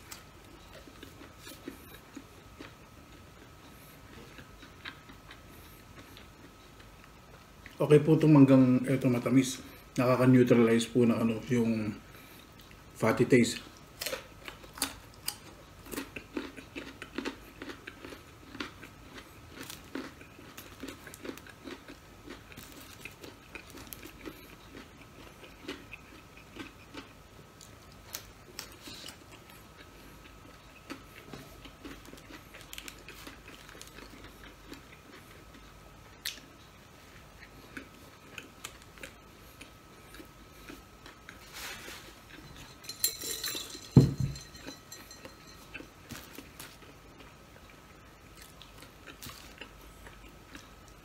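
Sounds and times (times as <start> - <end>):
faint high hum: 0.0 - 51.0
person crunching and chewing food: 0.0 - 51.0.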